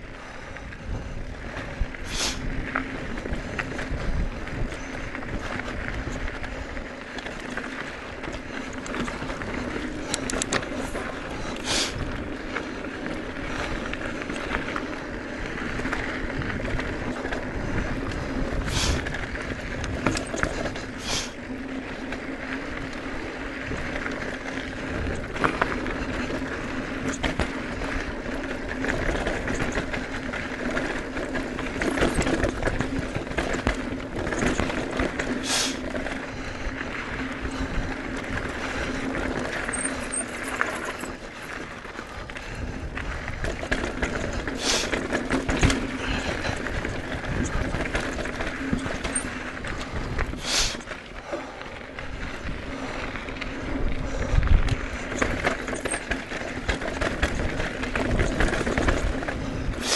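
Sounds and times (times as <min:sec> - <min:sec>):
rattle and crunch on dirt trail: 0:00.0 - 0:59.9
wind buffeting microphone: 0:00.1 - 0:59.9.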